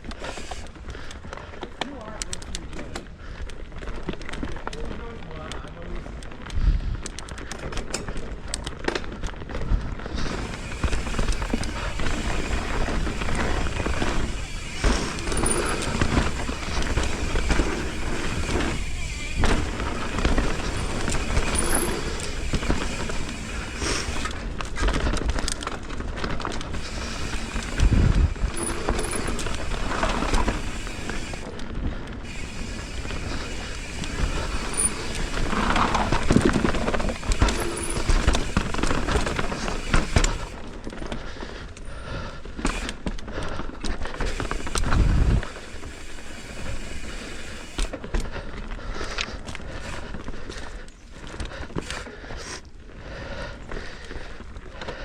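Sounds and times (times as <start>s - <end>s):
bike rattling and knocking: 0.0s - 41.7s, 42.5s - 52.6s
tyre and wind noise: 0.0s - 55.0s.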